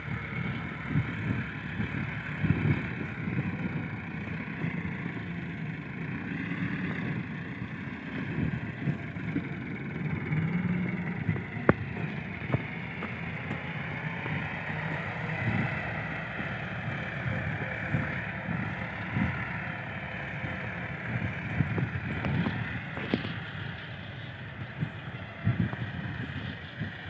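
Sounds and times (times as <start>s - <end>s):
distant tractor diesel engine: 0.0s - 27.0s.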